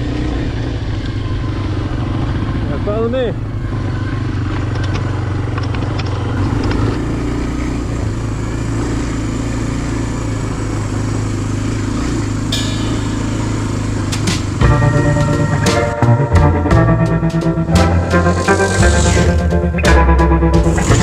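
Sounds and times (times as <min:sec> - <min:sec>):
dirt bike engine running: 0:00.0 - 0:15.7, 0:16.4 - 0:21.0.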